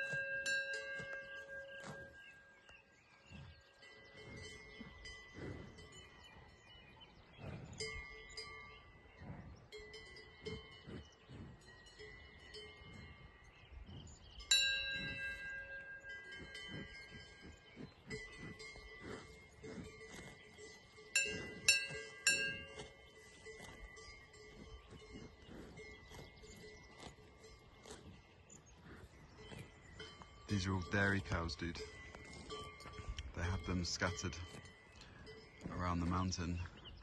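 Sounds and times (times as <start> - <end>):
cowbells clanking: 0.0 - 37.0.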